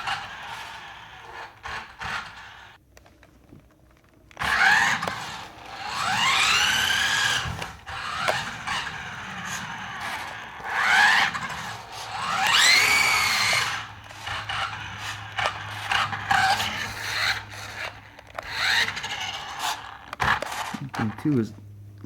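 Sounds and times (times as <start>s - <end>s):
toy car electric motor whining: 0.0s - 2.8s, 4.4s - 21.3s.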